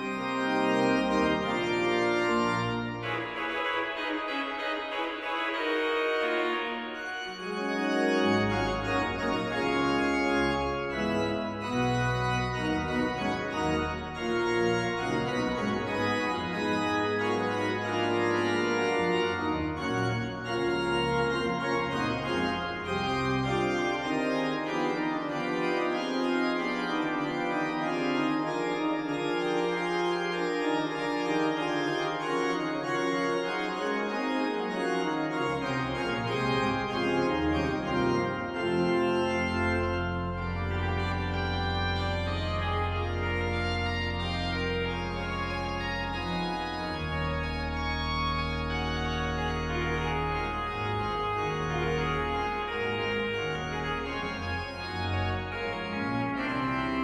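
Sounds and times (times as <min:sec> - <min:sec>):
deep organ pedal bass notes: 0:00.0 - 0:57.0
pipe organ chords: 0:00.0 - 0:57.0.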